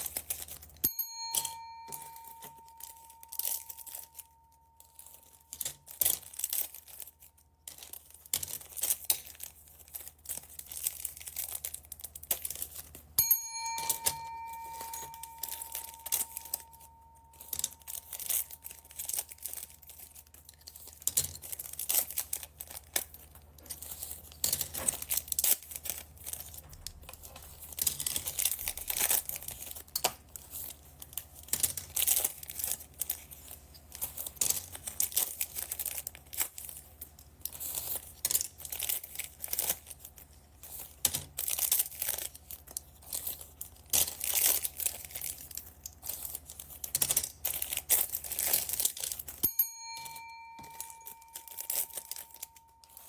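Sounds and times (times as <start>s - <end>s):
plastic bags crinkling and tearing: 0.0s - 0.8s, 2.0s - 13.2s, 14.6s - 49.4s, 50.0s - 53.0s.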